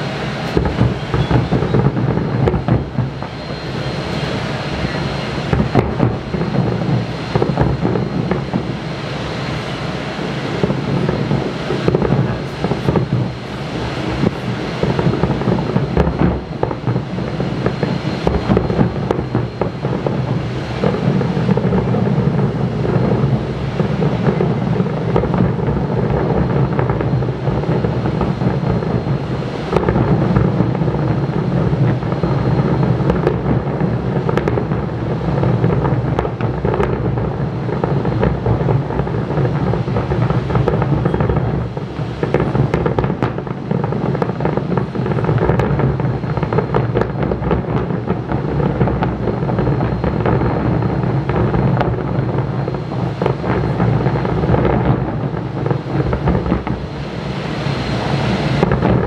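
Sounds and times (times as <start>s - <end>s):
fireworks bangs and crackles: 0.0s - 59.0s
fireworks booming: 0.0s - 59.0s.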